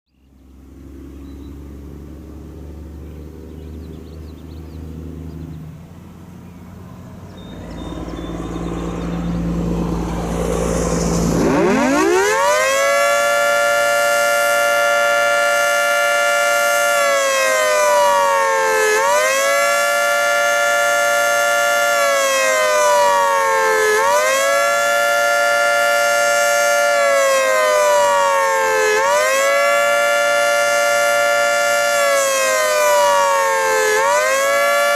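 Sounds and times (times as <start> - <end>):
warning siren fast wail: 6.8 - 34.9.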